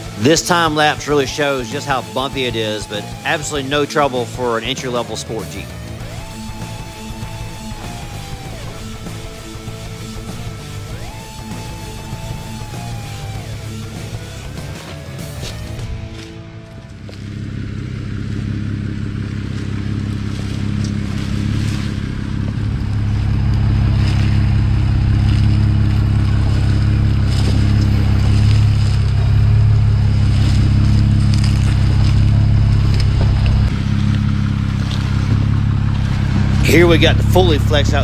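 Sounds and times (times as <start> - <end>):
tires crunching on rocks and gravel: 0.0 - 38.0
vehicle engine at low revs: 0.0 - 38.0.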